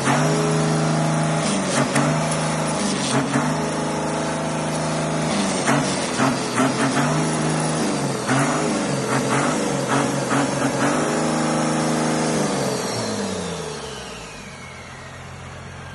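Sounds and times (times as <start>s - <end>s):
diesel engine revving: 0.0s - 15.9s.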